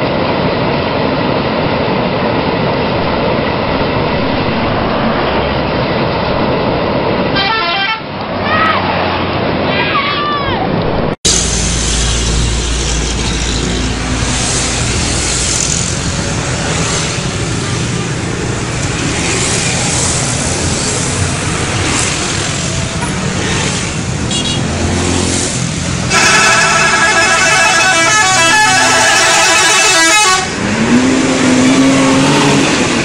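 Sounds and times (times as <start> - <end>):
vehicles passing by: 0.0 - 33.0.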